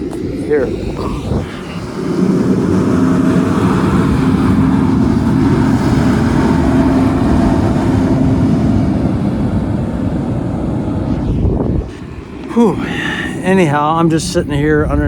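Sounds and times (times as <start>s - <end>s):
constant hum: 0.0s - 15.0s
large truck engine rumbling: 0.0s - 15.0s.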